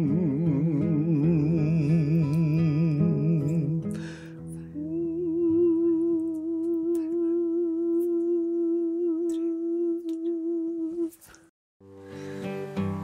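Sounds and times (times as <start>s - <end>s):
voice singing hymn: 0.0s - 11.3s.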